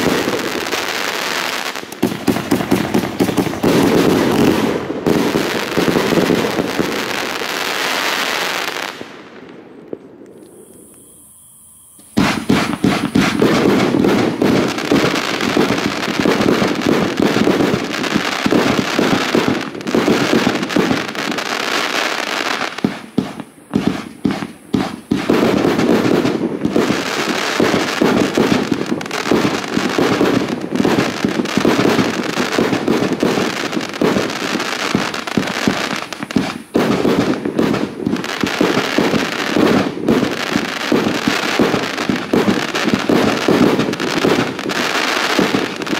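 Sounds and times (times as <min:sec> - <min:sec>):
fireworks launch thumps and bursts: 0:01.8 - 0:07.0, 0:12.0 - 0:21.1, 0:22.7 - 0:45.9.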